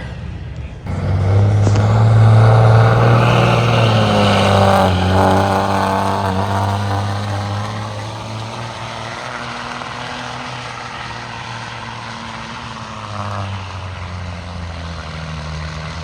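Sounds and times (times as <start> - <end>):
diesel engine at full throttle: 0.0 - 16.0.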